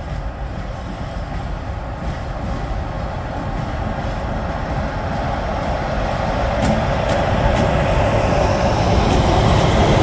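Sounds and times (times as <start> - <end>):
freight train passing: 0.0 - 10.0.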